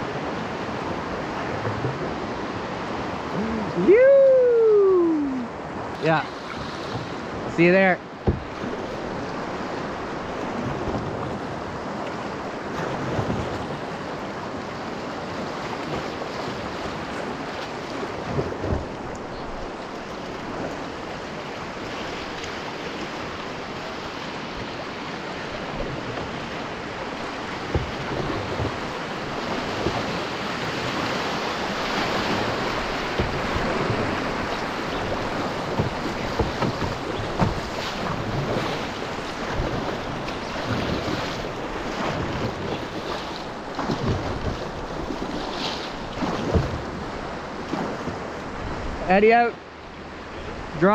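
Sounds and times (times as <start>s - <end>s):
rushing whitewater rapids: 0.0s - 50.9s.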